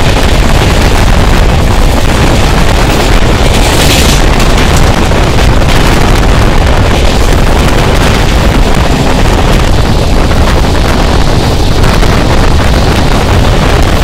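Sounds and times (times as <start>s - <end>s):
train coaches rumbling on rails: 0.0s - 14.0s
wind buffeting microphone: 0.0s - 14.0s.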